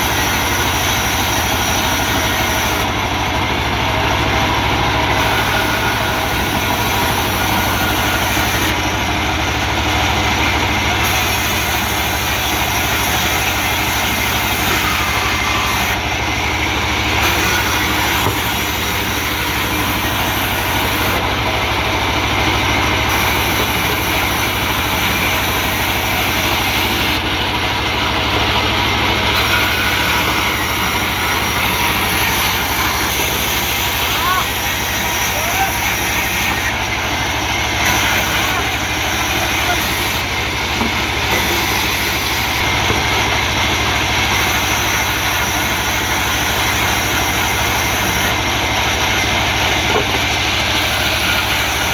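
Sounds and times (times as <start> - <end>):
heavy engine running steadily: 0.0 - 51.9.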